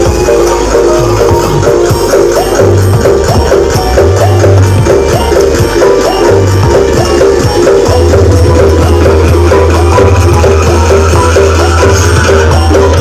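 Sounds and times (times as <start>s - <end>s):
loud music on street sound system: 0.0s - 13.0s.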